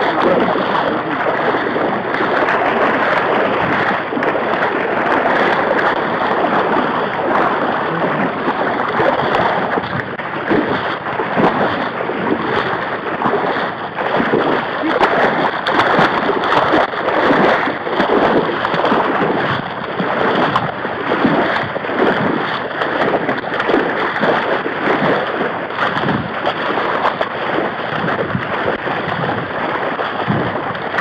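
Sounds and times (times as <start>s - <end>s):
wading through shallow water: 0.0s - 31.0s.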